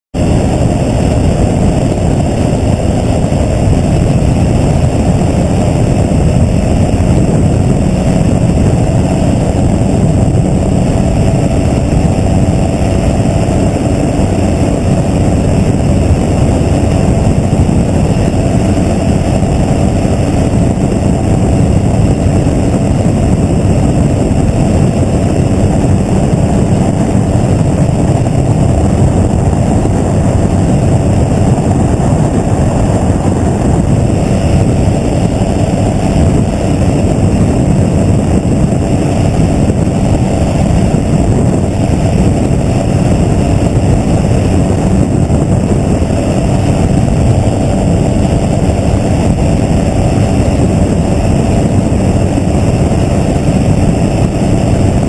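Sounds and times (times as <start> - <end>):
gyrocopter engine drone: 0.1 - 55.0
rushing air: 0.1 - 55.0.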